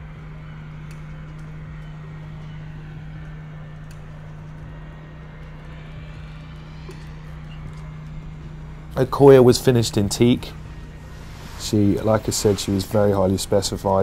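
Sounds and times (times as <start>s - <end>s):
low rumble: 0.0s - 14.0s
steady low hum: 0.0s - 14.0s.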